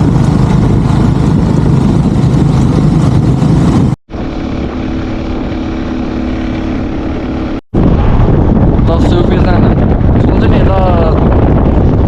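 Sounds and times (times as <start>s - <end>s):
rush of wind: 0.0s - 12.0s.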